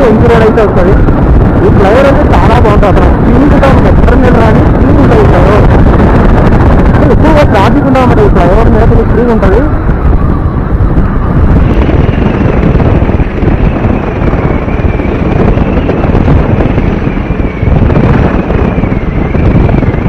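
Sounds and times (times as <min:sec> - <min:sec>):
road noise: 0:00.0 - 0:20.0
thin high whine: 0:00.0 - 0:20.0
wind rushing over microphone: 0:00.0 - 0:20.0.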